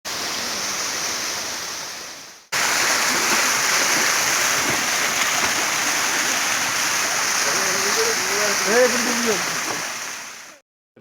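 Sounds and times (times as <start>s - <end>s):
waterfall rushing water: 0.1s - 10.6s.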